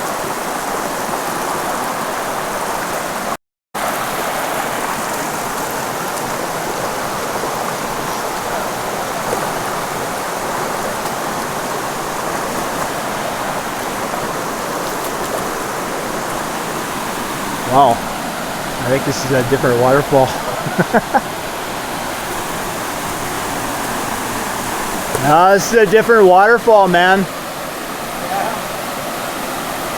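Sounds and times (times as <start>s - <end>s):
creek water rushing: 0.0s - 29.9s
waterfall: 0.0s - 29.9s.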